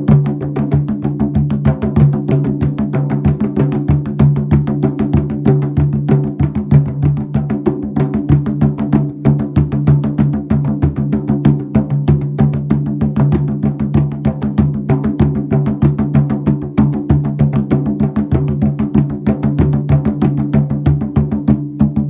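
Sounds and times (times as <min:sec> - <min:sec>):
rapid drum strikes: 0:00.0 - 0:22.0.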